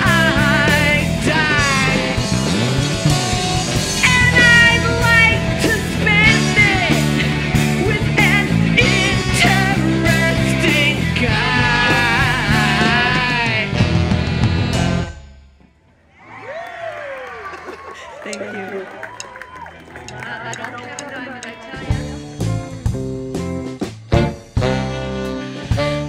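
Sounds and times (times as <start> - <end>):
live rock band playing: 0.0 - 15.6, 17.9 - 26.0.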